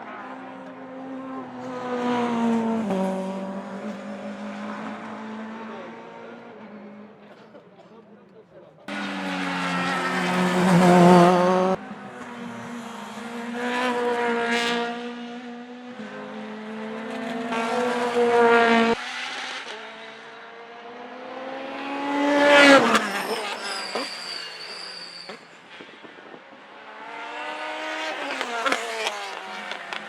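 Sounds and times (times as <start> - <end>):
racing car engines passing: 0.0 - 30.0.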